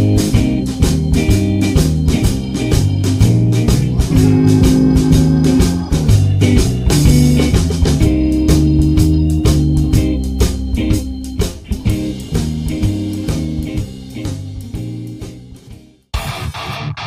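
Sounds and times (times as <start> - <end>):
strummed electric guitar music: 0.0 - 15.2, 16.2 - 17.0
blues-rock music with guitar and organ: 0.0 - 17.0.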